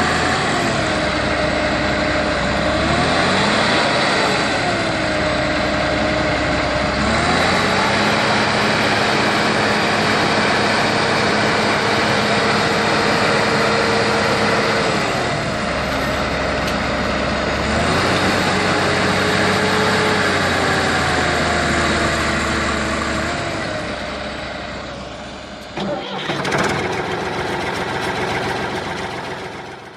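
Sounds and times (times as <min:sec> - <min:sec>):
heavy diesel engine working: 0:00.0 - 0:29.9.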